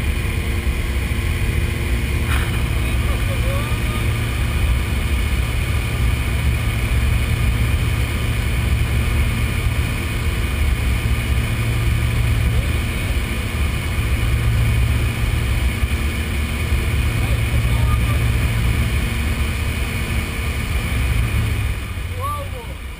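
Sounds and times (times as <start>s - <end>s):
light aircraft engine droning: 0.0s - 22.9s.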